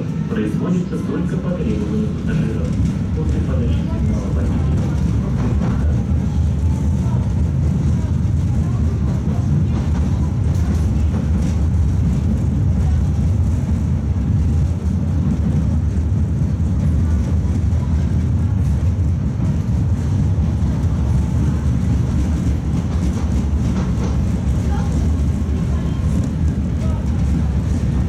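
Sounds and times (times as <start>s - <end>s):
tram low rumble: 0.0s - 28.0s.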